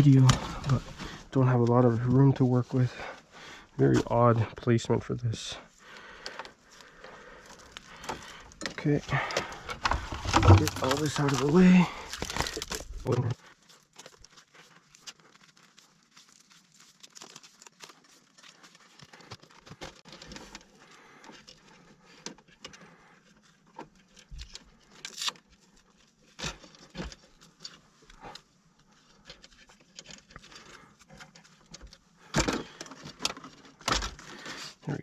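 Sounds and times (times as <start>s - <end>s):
cables rustling in hand: 5.1s - 34.9s.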